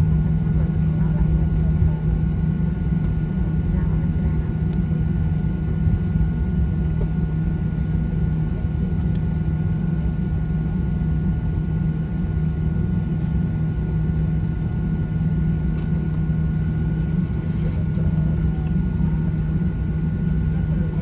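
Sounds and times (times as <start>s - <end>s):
jet engines idling drone: 0.0s - 21.0s.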